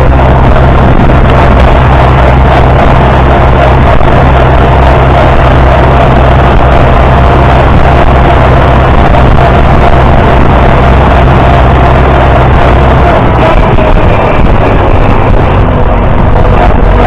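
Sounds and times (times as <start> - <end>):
high whine: 0.0 - 17.0
tractor engine running: 0.0 - 17.0.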